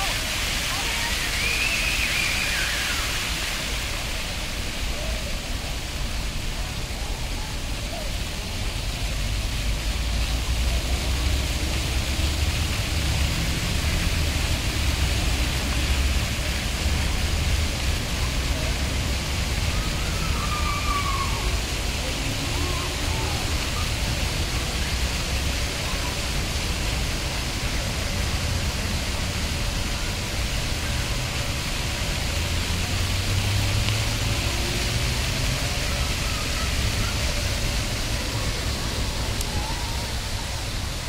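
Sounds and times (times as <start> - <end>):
fountain jets splashing on paving: 0.0 - 41.0.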